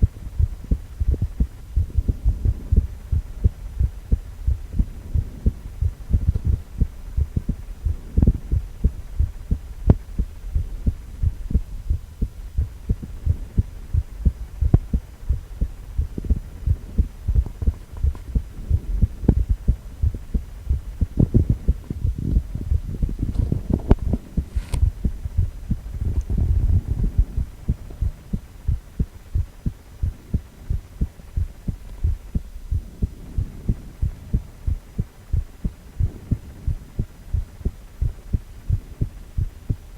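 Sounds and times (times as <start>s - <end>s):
heartbeat thuds: 0.0s - 39.9s
low hum: 0.0s - 39.9s.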